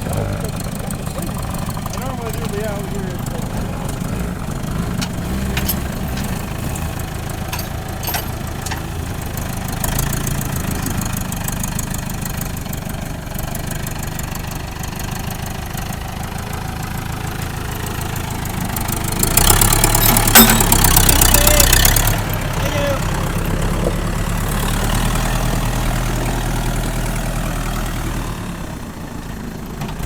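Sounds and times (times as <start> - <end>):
engine running at low revs: 0.0 - 29.7.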